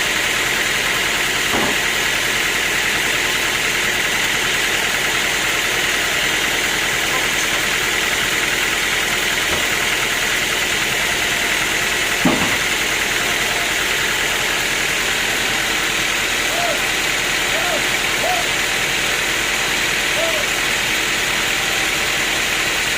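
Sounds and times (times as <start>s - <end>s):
sawmill machinery humming: 0.0s - 22.9s.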